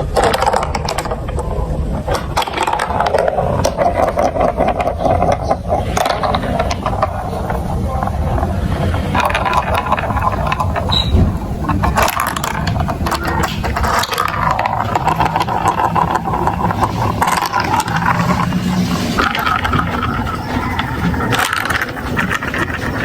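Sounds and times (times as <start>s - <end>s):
plastic marble run pieces clattering: 0.0s - 23.0s.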